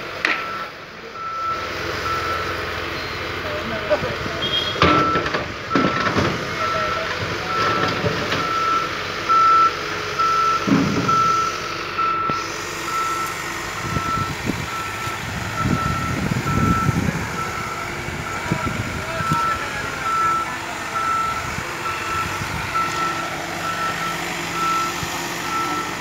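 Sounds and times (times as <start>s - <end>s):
diesel engine noise: 0.0s - 26.0s
reversing alarm beeping: 0.3s - 3.6s, 4.4s - 26.0s.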